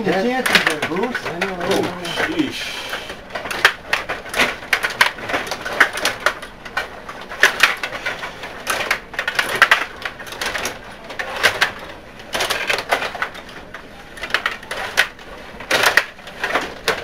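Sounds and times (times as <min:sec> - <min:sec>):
plastic clicks and clacks: 0:00.0 - 0:17.0.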